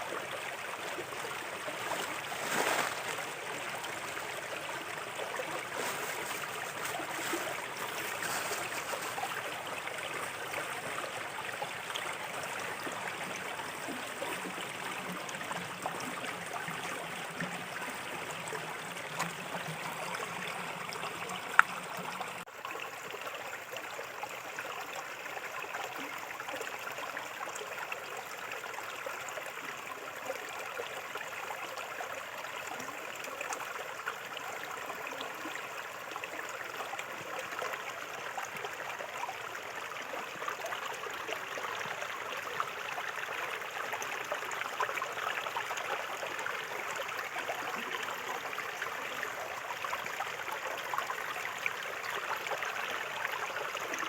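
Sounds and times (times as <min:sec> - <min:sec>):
river flowing over stones: 0:00.0 - 0:54.0.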